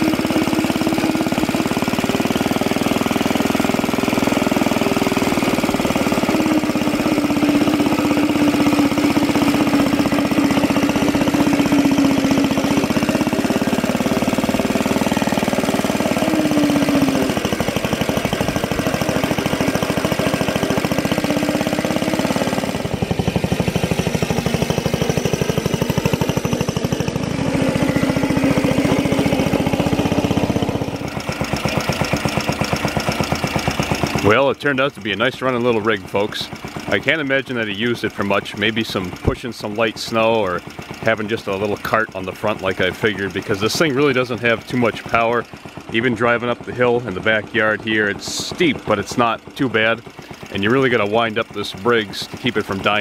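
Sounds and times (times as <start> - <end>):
small engine running at high revs: 0.0 - 53.0.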